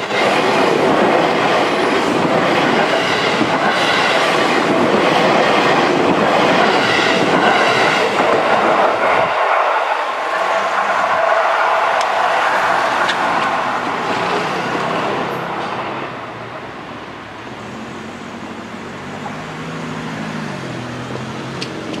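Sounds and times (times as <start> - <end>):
train running down the track: 0.0 - 22.0.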